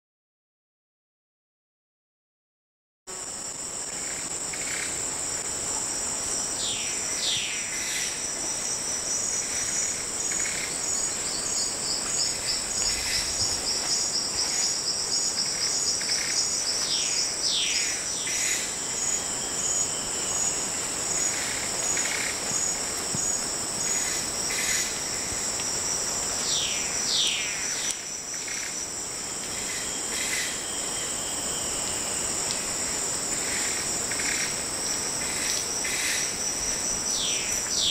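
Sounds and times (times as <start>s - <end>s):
high-pitched insect chorus: 3.1s - 37.9s.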